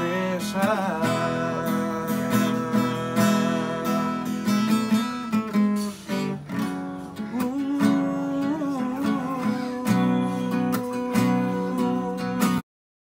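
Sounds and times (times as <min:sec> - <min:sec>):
acoustic guitar strumming: 0:00.0 - 0:12.6.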